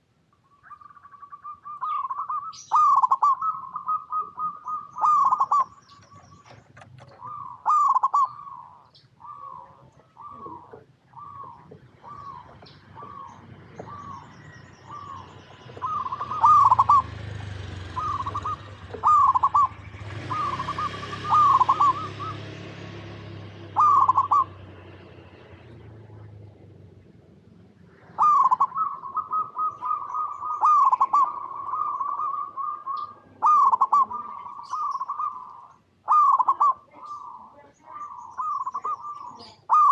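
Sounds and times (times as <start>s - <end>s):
small birds chirping: 0.0s - 39.9s
dove cooing: 0.6s - 39.9s.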